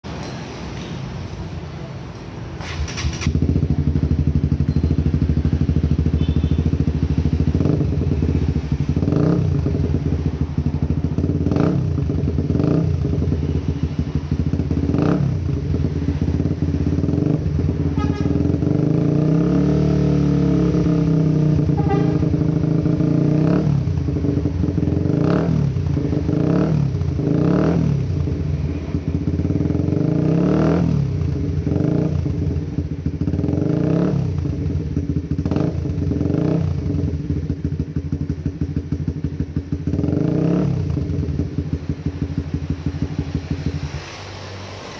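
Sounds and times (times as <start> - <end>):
motorcycle engine revving: 2.6 - 44.9.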